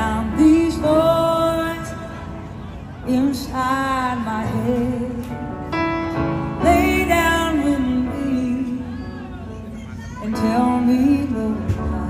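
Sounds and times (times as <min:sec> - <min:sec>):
woman singing into a microphone: 0:00.0 - 0:05.7, 0:06.5 - 0:12.0.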